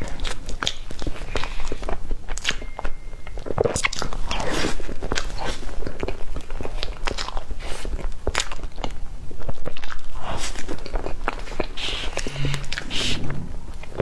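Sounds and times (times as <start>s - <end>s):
wet chewing of cake: 0.0s - 14.0s.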